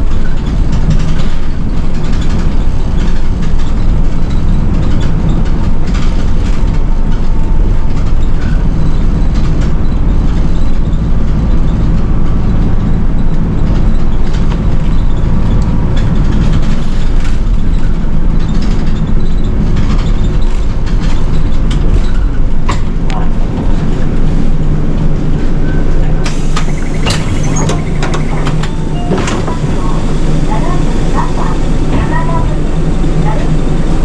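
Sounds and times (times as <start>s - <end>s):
bus engine rumble: 0.0s - 34.0s
road noise: 0.0s - 34.0s.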